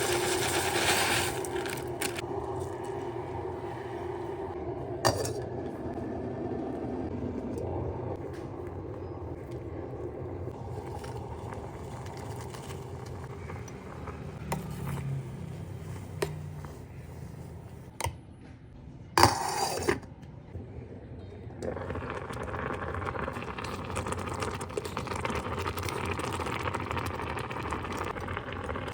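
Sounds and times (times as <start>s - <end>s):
electric kettle rumbling: 0.0s - 18.1s, 20.9s - 28.9s.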